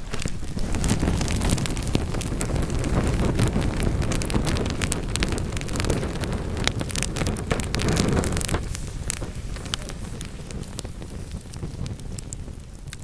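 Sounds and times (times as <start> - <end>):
logs crackling and popping: 0.0 - 13.0
low rush of flames: 0.0 - 13.0.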